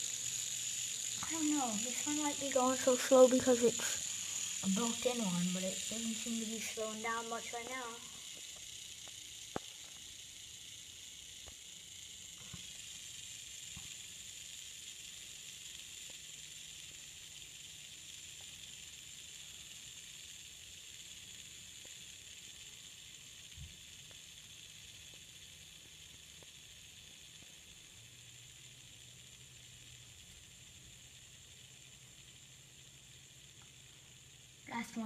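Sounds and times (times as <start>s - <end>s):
fidget spinner whirring: 0.0s - 35.0s.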